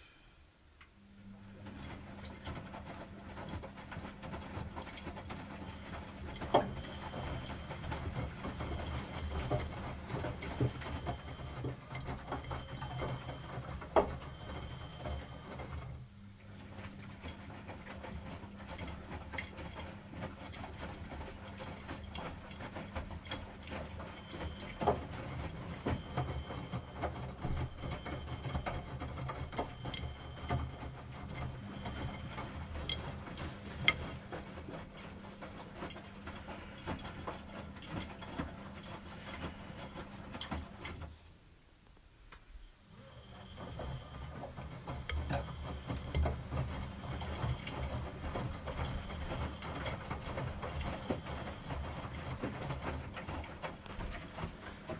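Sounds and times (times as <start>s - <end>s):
washing machine drum tumbling: 1.6s - 16.0s, 16.6s - 41.2s, 42.9s - 54.9s.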